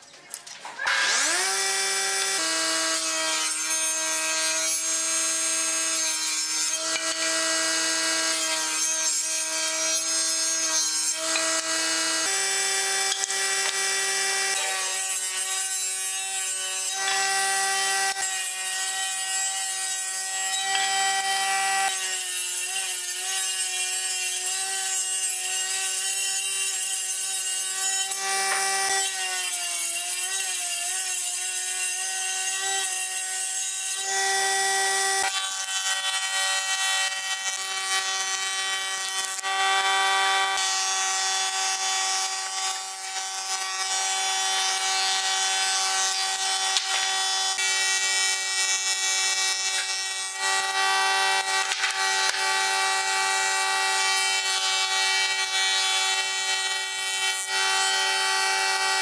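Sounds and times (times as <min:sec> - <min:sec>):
table saw ripping boards: 0:00.6 - 0:59.0.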